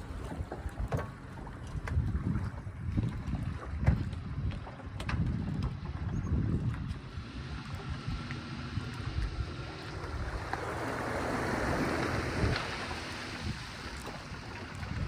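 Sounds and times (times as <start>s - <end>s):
waves lapping against dock: 0.0s - 15.0s
wind rumbling on microphone: 0.0s - 15.0s.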